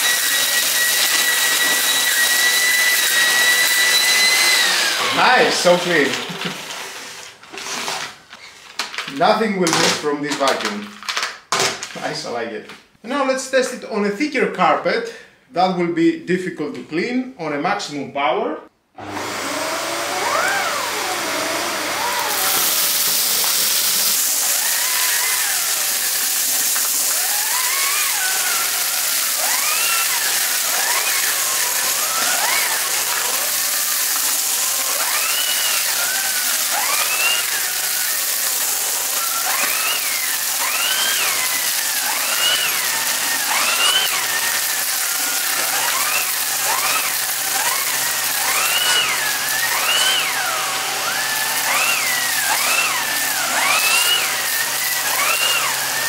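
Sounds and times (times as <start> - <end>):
vacuum cleaner on carpet: 0.0 - 8.0, 19.0 - 56.0.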